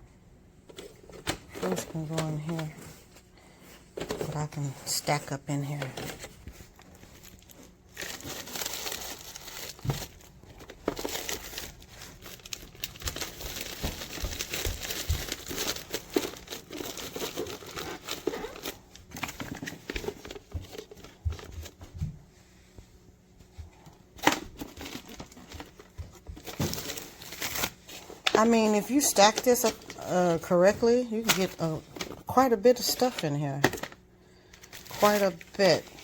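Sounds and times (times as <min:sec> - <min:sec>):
crinkling and rustling: 0:00.6 - 0:36.0.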